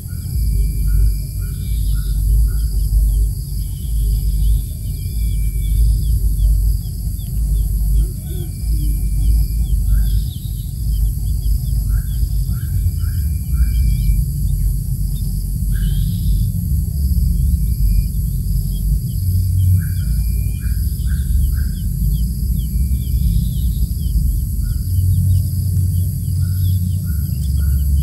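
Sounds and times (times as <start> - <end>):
insect drone: 0.0 - 28.0
loud low rumble: 0.0 - 28.0
chicks peeping: 0.4 - 28.0.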